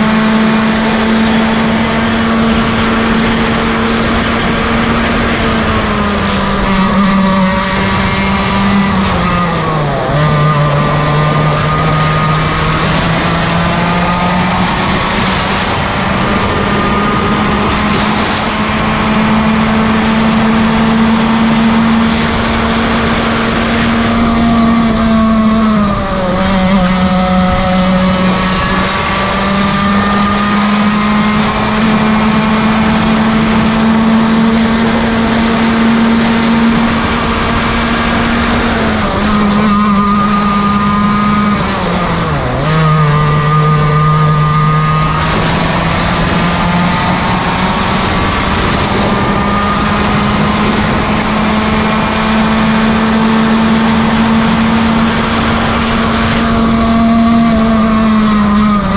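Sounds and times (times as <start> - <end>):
kart engine at high revs: 0.0 - 58.9.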